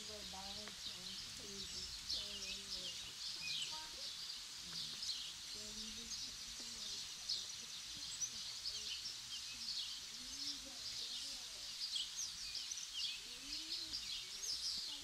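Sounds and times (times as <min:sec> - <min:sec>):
faint voices talking: 0:00.0 - 0:15.0
small birds chirping: 0:00.0 - 0:15.0.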